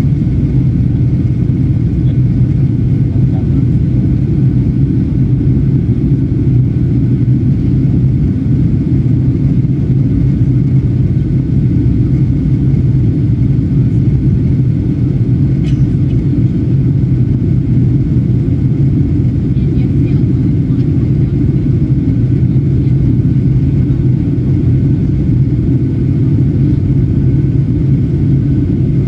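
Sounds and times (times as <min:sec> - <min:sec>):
airflow over fuselage: 0:00.0 - 0:29.0
jet engines low rumble: 0:00.0 - 0:29.0.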